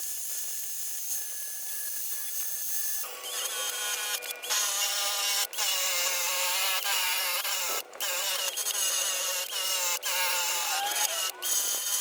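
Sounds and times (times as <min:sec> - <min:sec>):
power tool whining on sheet metal: 0:00.0 - 0:12.0.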